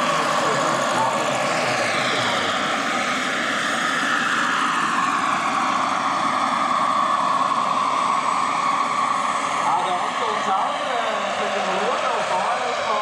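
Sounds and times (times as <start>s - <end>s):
model turbine engine whining: 0.0s - 13.0s.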